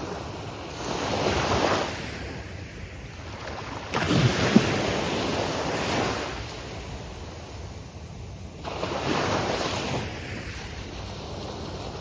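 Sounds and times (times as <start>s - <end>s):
surf waves breaking: 0.0s - 7.6s, 8.6s - 12.0s.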